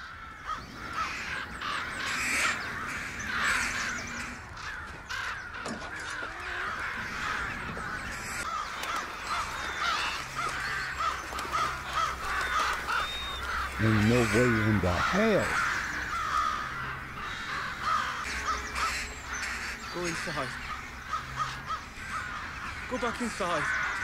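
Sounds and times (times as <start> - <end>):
crows cawing: 0.0 - 24.0.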